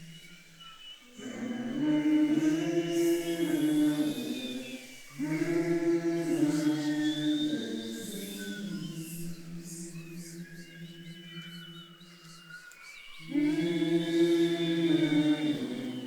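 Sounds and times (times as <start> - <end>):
choir singing chant in harmony: 0.0 - 16.0.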